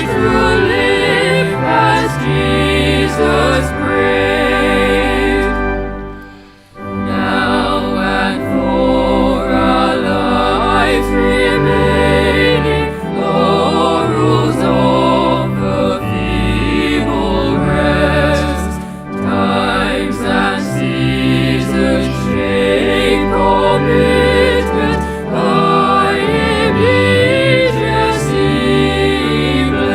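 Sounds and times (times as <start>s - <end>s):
choir singing a hymn: 0.0s - 29.9s
instrumental accompaniment: 0.0s - 29.9s.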